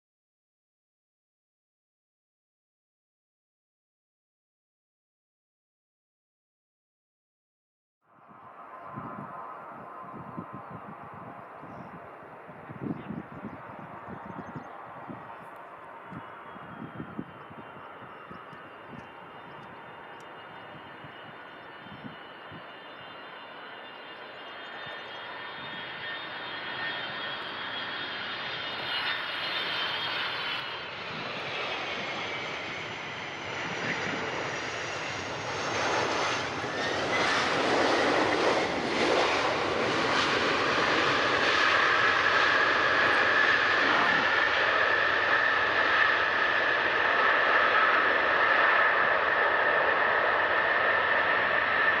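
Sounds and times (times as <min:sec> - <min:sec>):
high engine whine: 0:08.4 - 0:52.0
jet engines running: 0:08.5 - 0:52.0.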